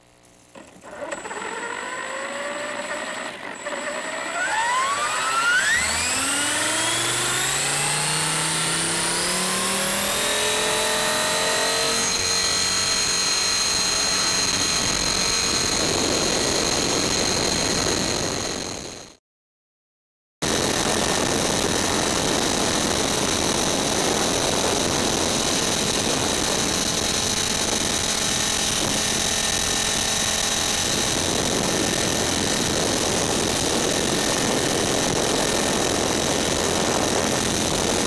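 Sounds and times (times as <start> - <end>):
model helicopter rotor whine: 0.4 - 19.2, 20.4 - 38.0.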